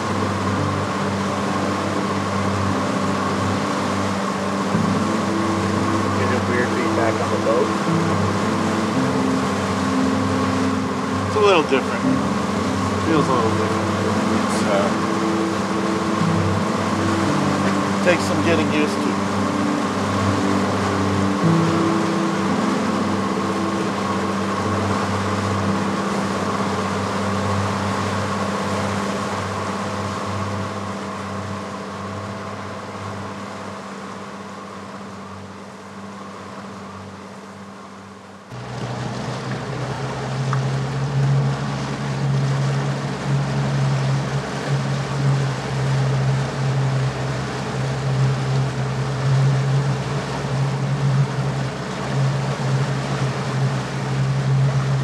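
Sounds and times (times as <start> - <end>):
motorboat engine running: 0.0 - 55.0
steady tonal drone: 0.0 - 55.0
water noise: 0.0 - 55.0
wind: 0.0 - 55.0.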